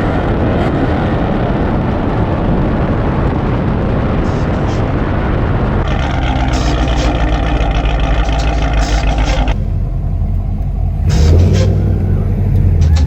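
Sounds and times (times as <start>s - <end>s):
car engines revving high: 0.0s - 13.0s.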